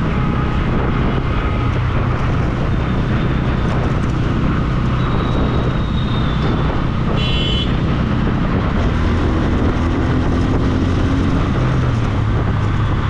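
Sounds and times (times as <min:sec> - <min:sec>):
motorcycle engine: 0:00.0 - 0:13.0
road and wind noise: 0:00.0 - 0:13.0.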